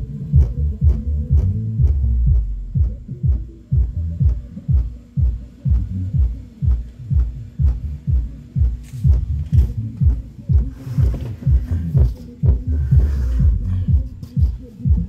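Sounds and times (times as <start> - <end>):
subwoofer playing deep bass thumps: 0.0 - 15.0.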